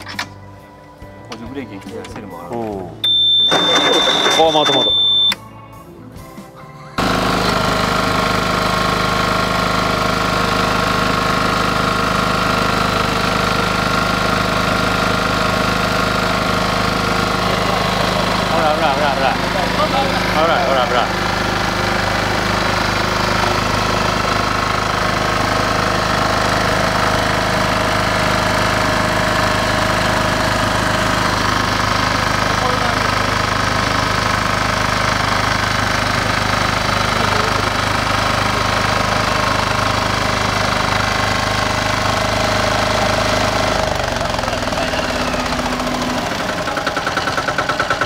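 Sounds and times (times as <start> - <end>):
farm machine engine running: 0.0 - 5.4, 7.0 - 48.0.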